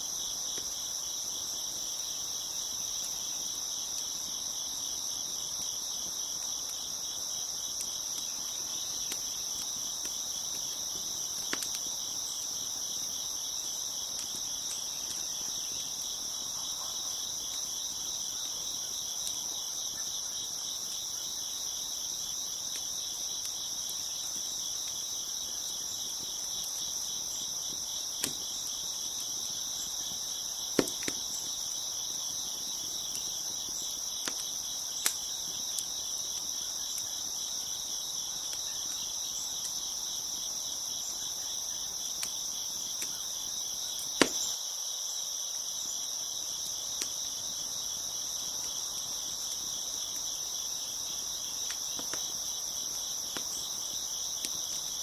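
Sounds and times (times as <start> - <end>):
crickets chirping: 0.0 - 55.0
wood fire popping and crackling: 0.1 - 40.9, 41.8 - 44.6, 46.4 - 55.0.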